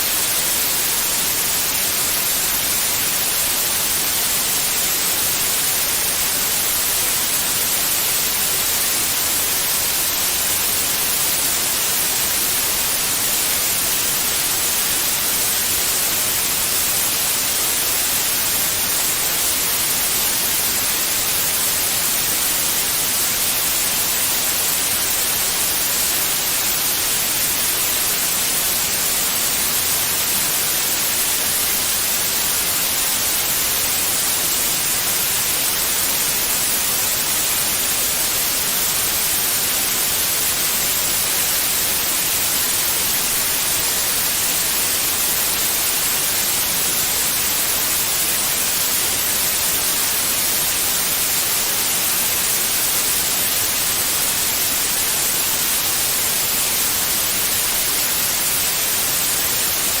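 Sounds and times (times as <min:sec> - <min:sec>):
white noise hiss: 0:00.0 - 1:00.0.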